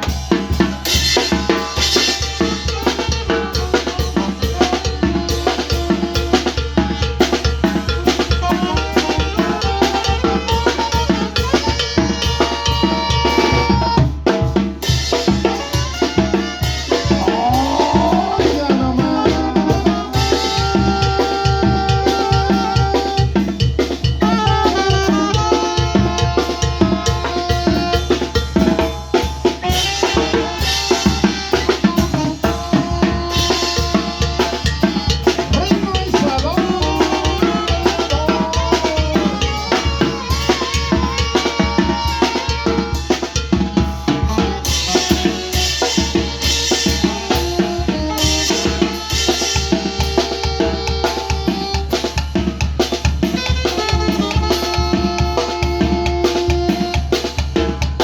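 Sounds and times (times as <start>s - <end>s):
bass drum and snare beat: 0.0s - 58.0s
brass melody: 0.0s - 58.0s.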